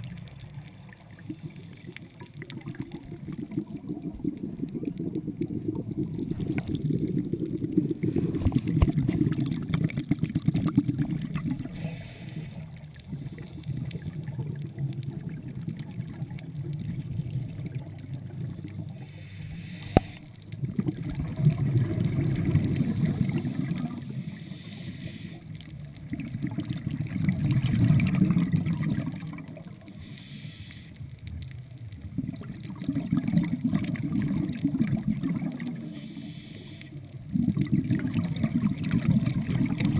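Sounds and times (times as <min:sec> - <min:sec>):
underwater exhaled bubbles gurgling: 0:00.0 - 0:39.9.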